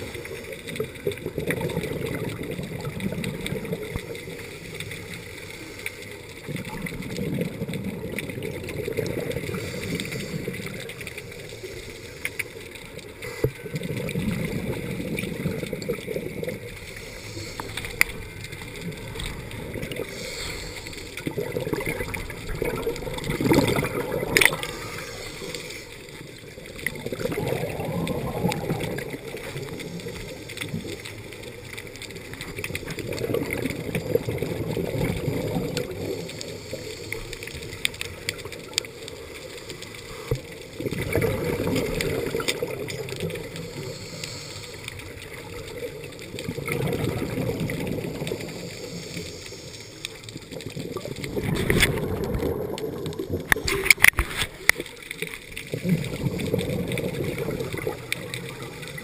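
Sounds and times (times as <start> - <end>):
exhaled bubbles gurgling underwater: 0.0 - 59.0.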